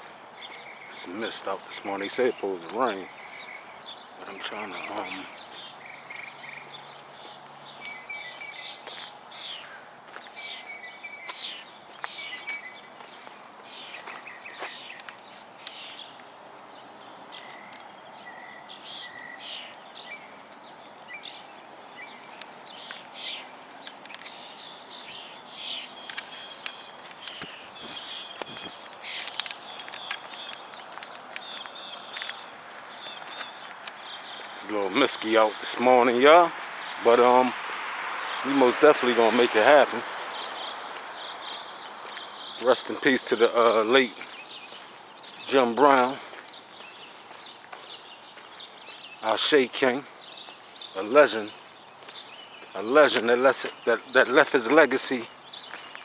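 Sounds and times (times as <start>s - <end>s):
birds chirping: 0.0s - 56.0s
outdoor background hiss: 0.0s - 56.0s.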